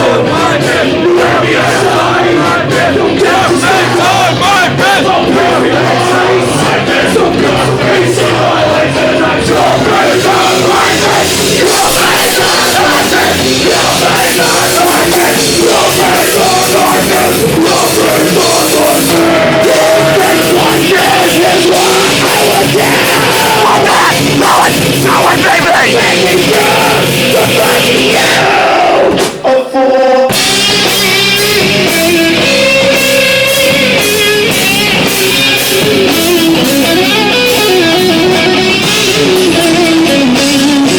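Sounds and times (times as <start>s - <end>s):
live heavy rock band: 0.0s - 40.9s.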